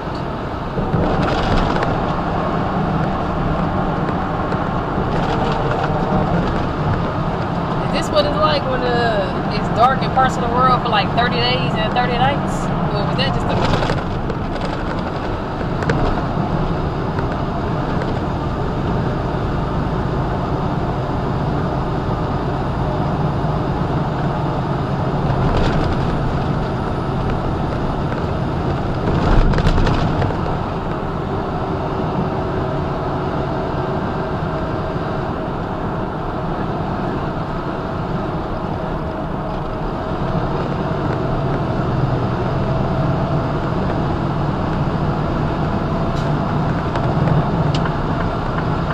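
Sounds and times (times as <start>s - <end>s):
truck diesel engine and road rumble: 0.0s - 48.9s.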